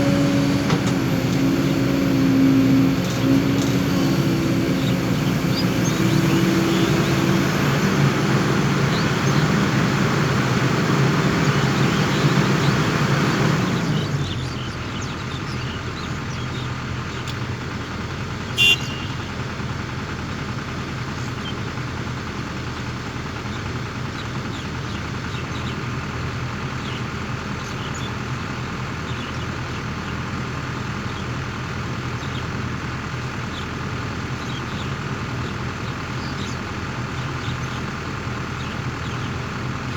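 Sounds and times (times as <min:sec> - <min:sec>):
heavy diesel engine: 0:00.0 - 0:39.9.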